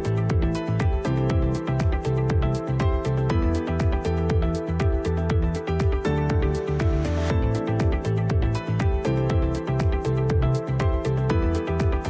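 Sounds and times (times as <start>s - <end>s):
electronic music with kick drums: 0.0s - 12.0s.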